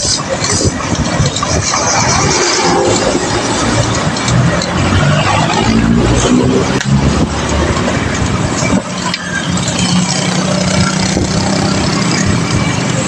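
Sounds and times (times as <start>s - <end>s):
motor vehicle engine running: 0.0s - 13.0s
road and wind noise: 0.0s - 13.0s.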